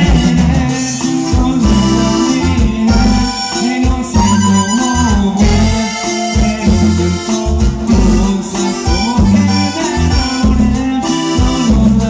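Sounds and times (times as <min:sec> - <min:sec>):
accordion melody: 0:00.0 - 0:12.0
dance band playing: 0:00.0 - 0:12.0.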